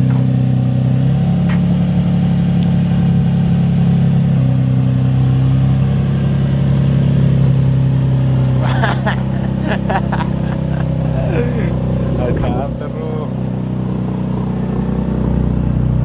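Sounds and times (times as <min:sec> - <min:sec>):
loud steady motor hum: 0:00.0 - 0:16.0.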